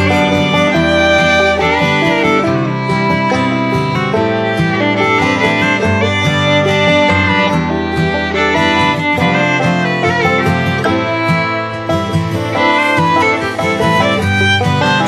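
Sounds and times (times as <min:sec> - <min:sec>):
fiddle and guitar country music: 0:00.0 - 0:15.0.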